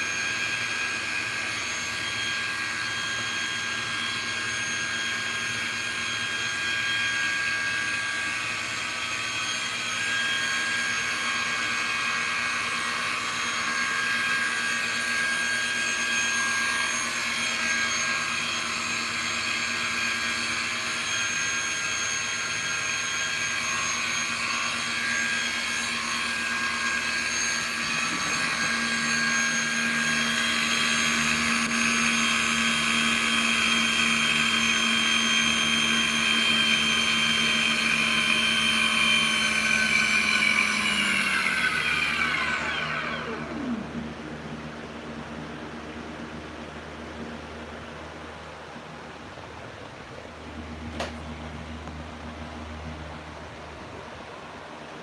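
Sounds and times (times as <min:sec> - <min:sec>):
electric motor high whine: 0:00.0 - 0:49.2.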